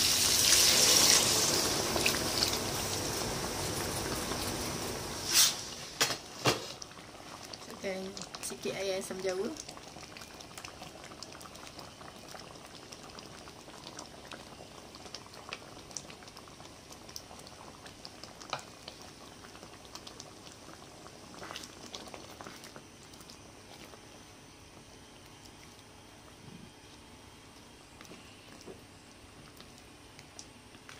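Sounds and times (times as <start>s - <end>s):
sauce bubbling in a frying pan: 0.0s - 30.9s.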